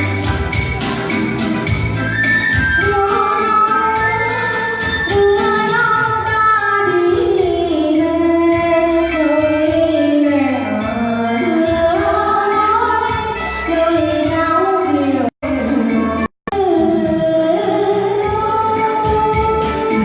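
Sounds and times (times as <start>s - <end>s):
bass accompaniment: 0.0s - 20.0s
woman singing: 2.8s - 20.0s.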